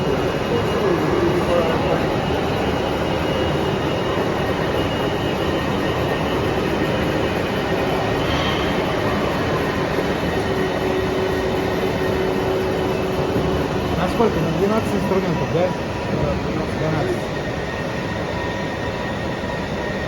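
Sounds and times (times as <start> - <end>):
lathe running with faint hum: 0.0 - 20.0.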